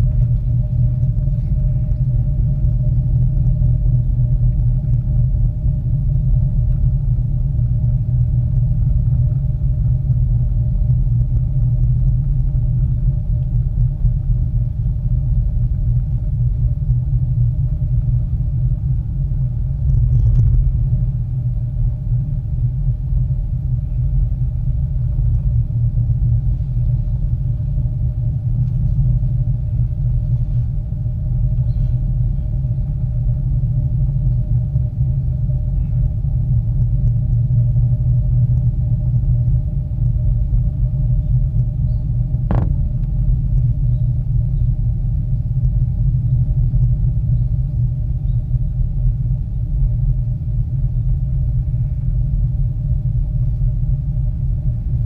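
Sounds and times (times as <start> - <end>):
cable car low rumble: 0.0 - 55.0
faint steady hum: 0.0 - 55.0.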